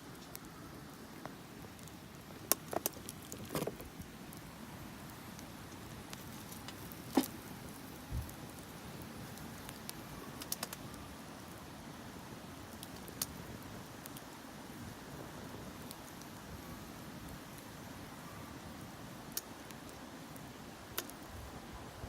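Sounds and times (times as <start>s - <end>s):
firewood crackling and popping: 0.0s - 21.7s.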